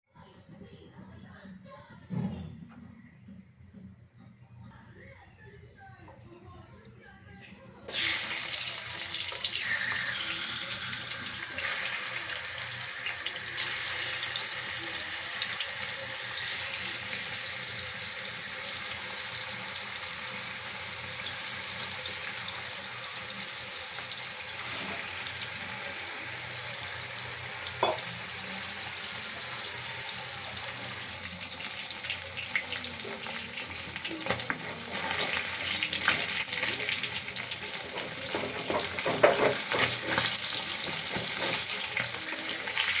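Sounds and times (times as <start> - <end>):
food sizzling in hot oil: 7.9 - 43.0.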